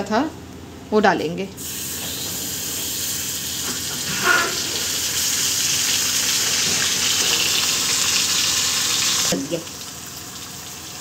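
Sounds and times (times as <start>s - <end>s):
hot oil sizzling: 1.6s - 11.0s.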